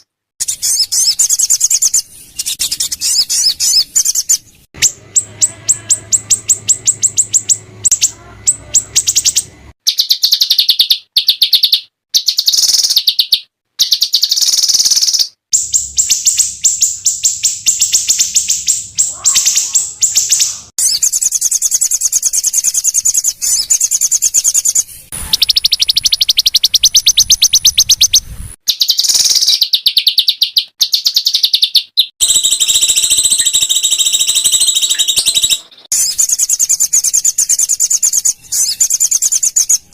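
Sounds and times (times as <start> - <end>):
songbirds high-pitched trills: 0.0 - 39.9.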